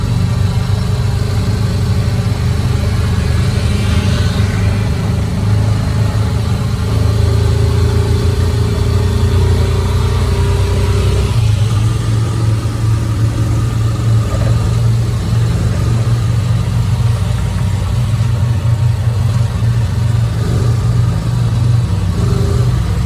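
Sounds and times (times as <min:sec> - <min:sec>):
steady higher hum: 0:00.0 - 0:23.0
vehicle engine running: 0:00.0 - 0:23.0.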